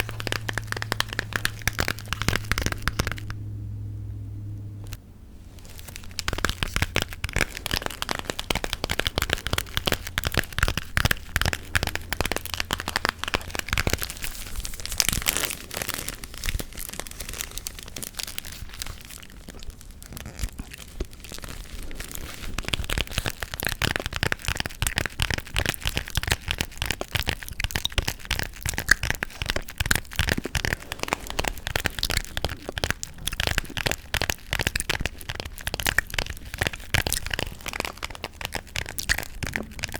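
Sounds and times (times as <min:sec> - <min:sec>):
gum chewing snaps: 0:00.0 - 0:03.4, 0:05.6 - 0:16.1, 0:18.3 - 0:39.9.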